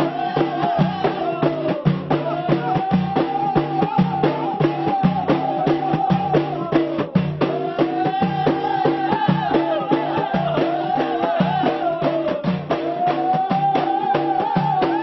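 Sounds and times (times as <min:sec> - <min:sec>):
frame drums beating: 0:00.0 - 0:15.0
men chanting together: 0:00.0 - 0:15.0.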